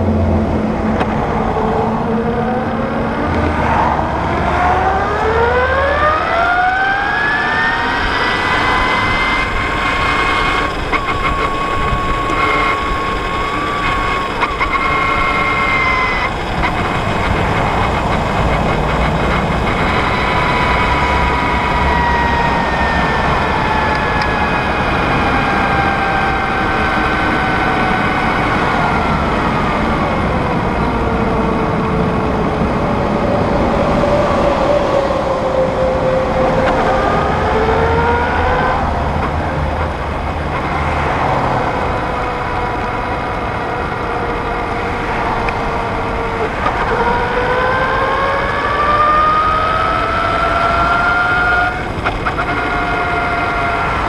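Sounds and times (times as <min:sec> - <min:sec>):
wind and road noise rumble: 0:00.0 - 0:54.0
electric motorcycle motor whining: 0:04.2 - 0:34.0, 0:34.6 - 0:54.0.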